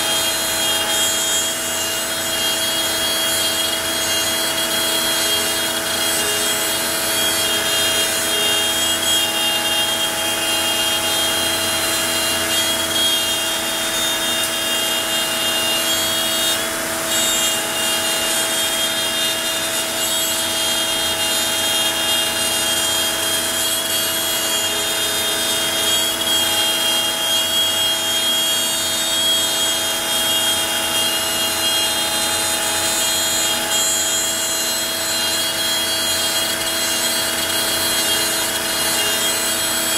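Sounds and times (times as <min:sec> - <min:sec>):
bit rasping in wood: 0:00.0 - 0:39.9
router spindle whine: 0:00.0 - 0:39.9.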